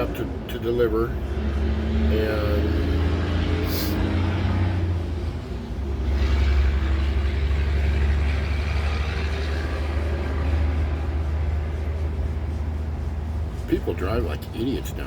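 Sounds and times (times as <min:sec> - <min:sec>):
diesel truck engine rumble: 0:00.0 - 0:15.0
traffic noise: 0:00.0 - 0:15.0.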